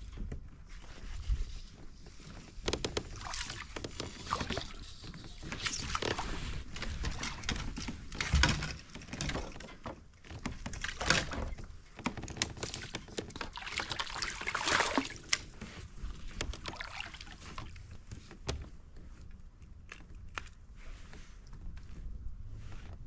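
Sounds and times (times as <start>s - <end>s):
water splashing and sloshing: 0.1s - 19.1s.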